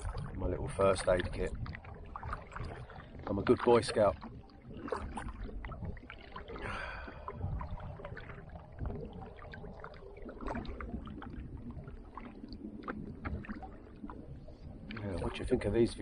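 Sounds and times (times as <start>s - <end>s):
water lapping and dripping: 0.0s - 16.0s
wind rumble on microphone: 0.0s - 16.0s.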